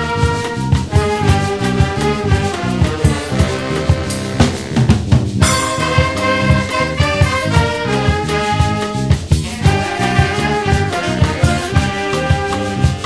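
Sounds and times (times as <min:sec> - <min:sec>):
bass drum and snare beat: 0:00.0 - 0:13.0
brass horns playing: 0:00.0 - 0:13.0.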